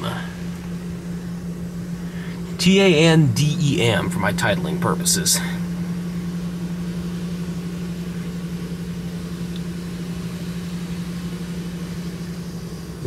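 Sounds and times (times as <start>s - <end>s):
car wash low hum: 0.0s - 13.0s.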